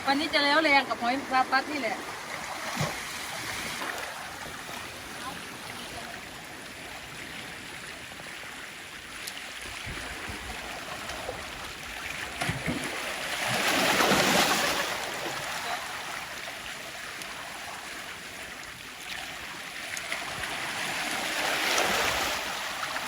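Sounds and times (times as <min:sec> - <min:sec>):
surf washing over rocks: 0:00.0 - 0:23.0.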